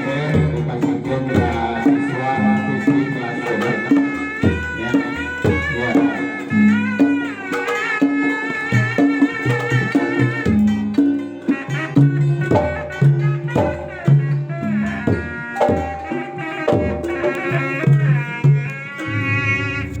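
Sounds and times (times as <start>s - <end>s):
hand drums playing: 0.0s - 20.0s
wavering vibrato melody: 0.0s - 20.0s.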